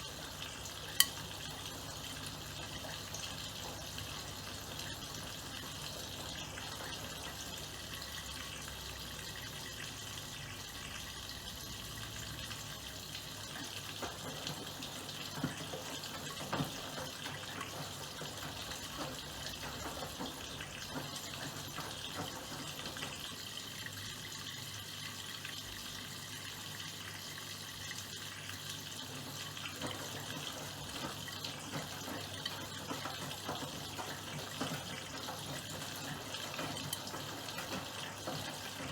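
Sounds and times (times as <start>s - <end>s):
water flowing into washing machine: 0.0s - 38.9s.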